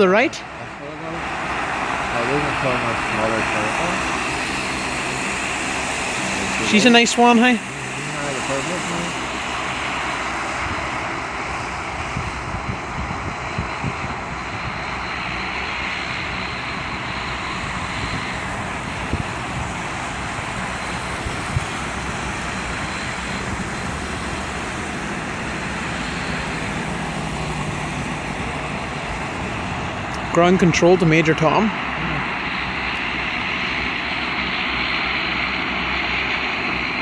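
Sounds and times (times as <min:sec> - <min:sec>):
turboprop engines running: 0:00.0 - 0:37.0.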